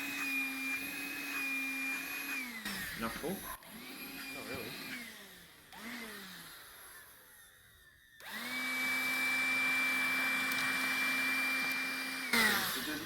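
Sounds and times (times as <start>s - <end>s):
cordless vacuum motor whine: 0.0s - 13.0s.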